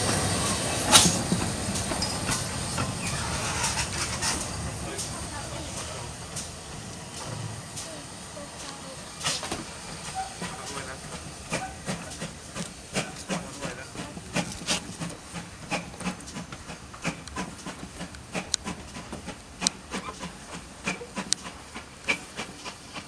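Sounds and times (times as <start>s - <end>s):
steam hissing: 0.0s - 23.0s
steam locomotive exhaust beating: 0.0s - 23.0s.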